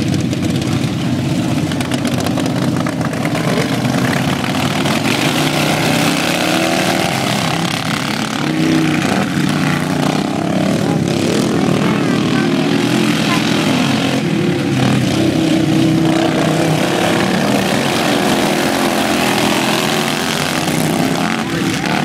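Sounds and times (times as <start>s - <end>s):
racing lawn mower engines: 0.0s - 22.0s.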